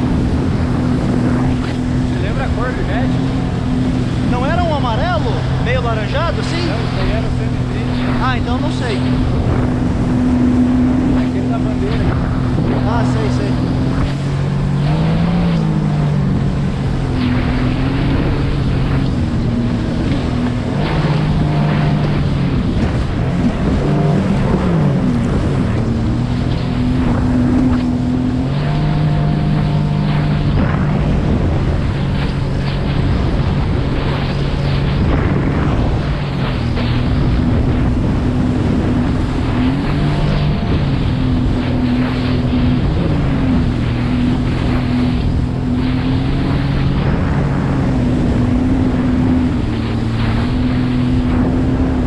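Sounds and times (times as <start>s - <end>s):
jet ski engine running: 0.0s - 52.0s
water rushing against hull: 0.0s - 52.0s
wind on microphone: 0.0s - 52.0s.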